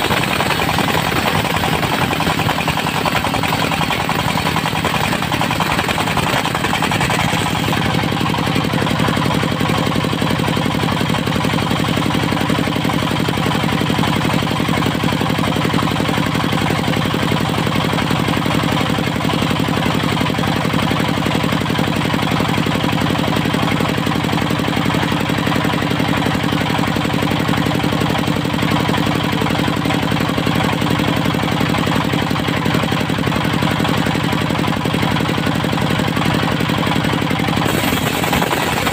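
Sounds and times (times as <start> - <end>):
sawmill diesel engine running: 0.0 - 38.9.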